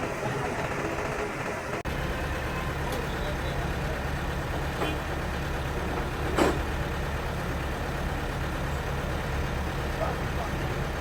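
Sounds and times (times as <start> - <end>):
engine idling with low hum: 0.0 - 11.0.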